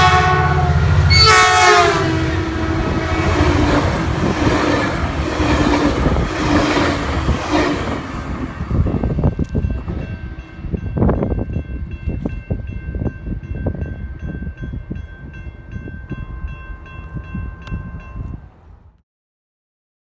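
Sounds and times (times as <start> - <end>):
crossing bell ringing: 0.0 - 18.7
distant train rumble: 0.0 - 19.0
wind buffeting microphone: 1.8 - 19.0.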